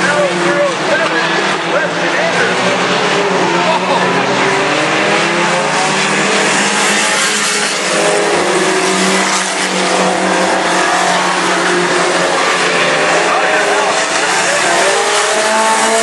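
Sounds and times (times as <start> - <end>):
race engines revving: 0.0 - 16.0.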